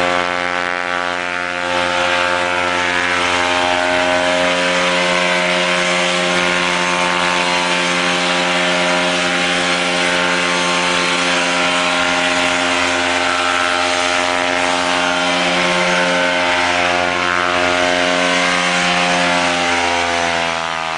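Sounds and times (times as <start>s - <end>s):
propeller aircraft engine droning: 0.0s - 20.9s.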